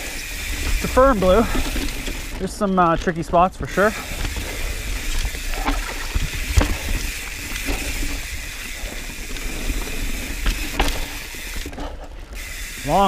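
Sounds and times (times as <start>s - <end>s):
bike rattling: 0.0s - 13.0s
tyres rolling over dirt: 0.1s - 13.0s.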